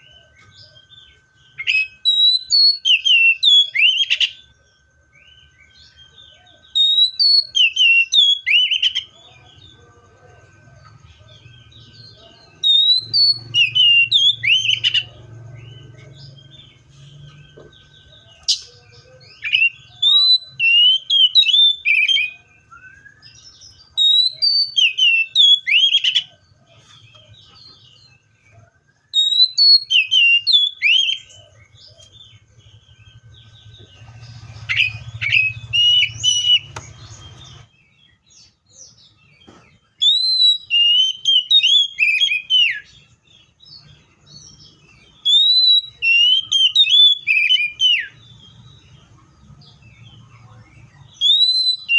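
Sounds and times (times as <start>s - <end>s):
bird singing whistled notes: 0.0s - 51.9s.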